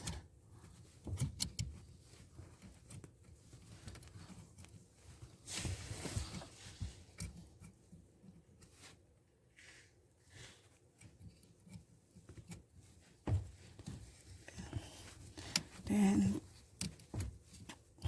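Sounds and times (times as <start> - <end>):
scraping rustle: 0.0 - 18.0
small clicks and rustles of hands: 0.0 - 18.0.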